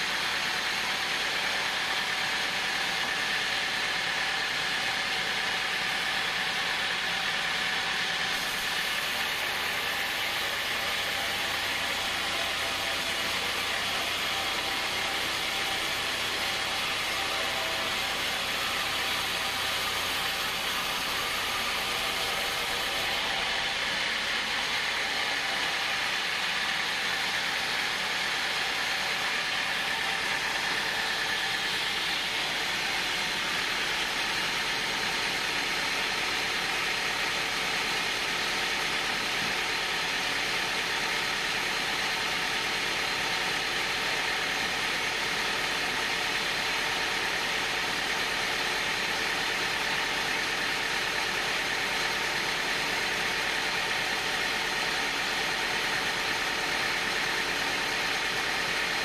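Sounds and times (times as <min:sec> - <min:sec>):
band saw whirring: 0:00.0 - 0:59.0.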